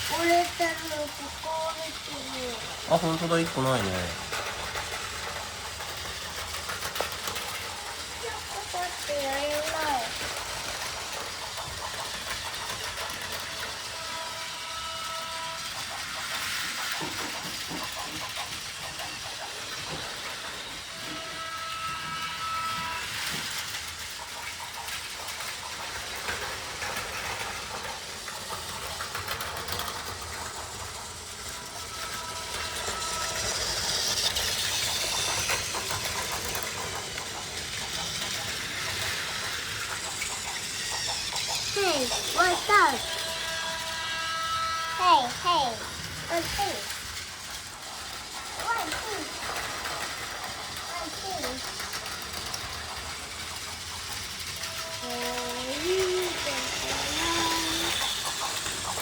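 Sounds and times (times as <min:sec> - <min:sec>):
toy trains whirring and rattling: 0:00.0 - 0:59.0.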